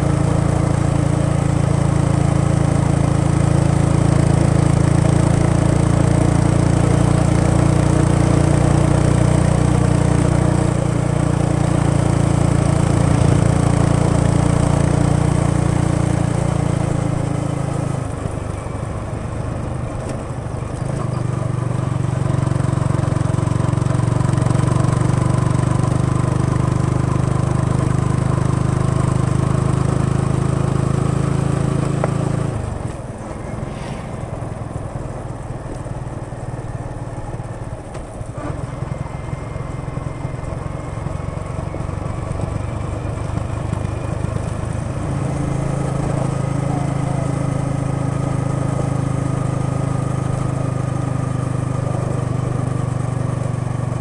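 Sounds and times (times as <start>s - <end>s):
motorcycle engine and exhaust: 0.0s - 54.0s.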